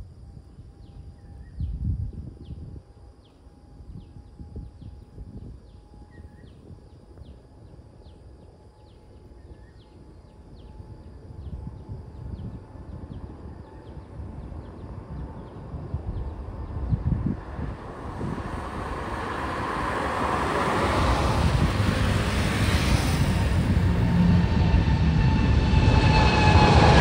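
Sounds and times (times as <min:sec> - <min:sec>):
distant jet engines roaring: 0:00.0 - 0:27.0
wind rumbling on microphone: 0:00.0 - 0:27.0.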